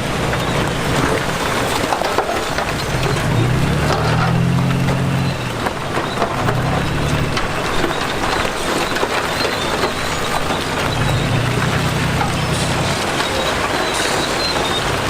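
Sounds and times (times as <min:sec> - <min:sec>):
diesel engine running: 0:00.0 - 0:15.0
stones and earth crunching: 0:00.2 - 0:13.4.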